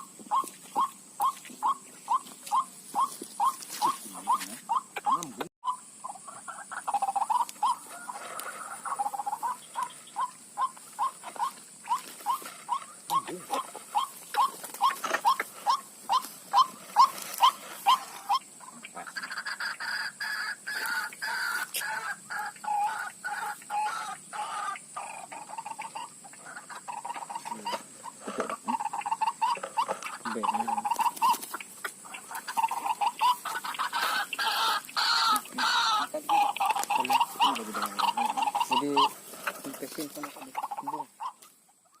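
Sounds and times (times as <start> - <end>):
waterhen calls: 0.0 - 42.0.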